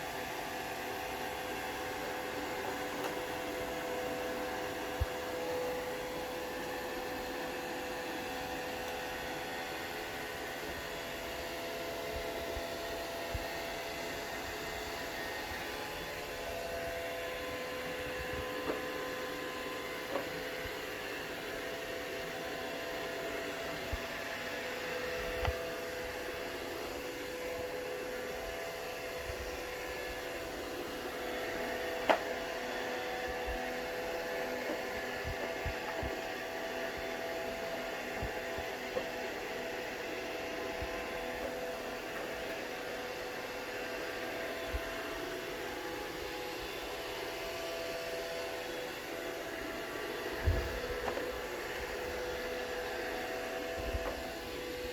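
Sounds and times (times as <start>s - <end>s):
robot vacuum whirring: 0.0s - 54.9s.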